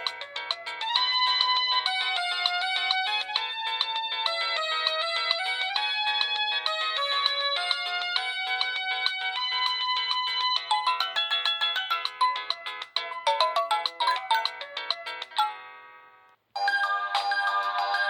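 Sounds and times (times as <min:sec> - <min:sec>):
cellphone melodic ringtone: 0:00.0 - 0:18.0.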